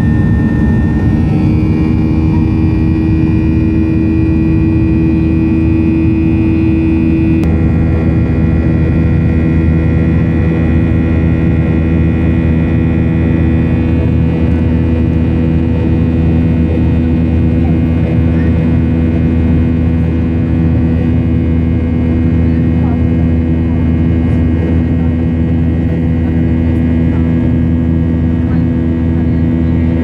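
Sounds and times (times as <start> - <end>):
jet engine drone in cabin: 0.0 - 30.0.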